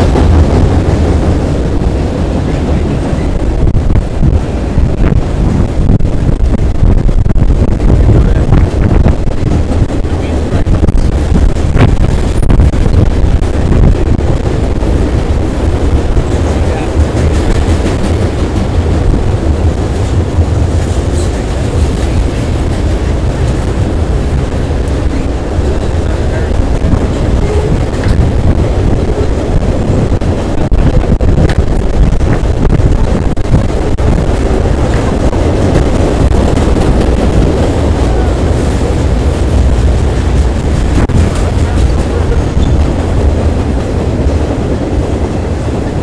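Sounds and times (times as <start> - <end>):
freight train rumbling over bridge: 0.0 - 46.0.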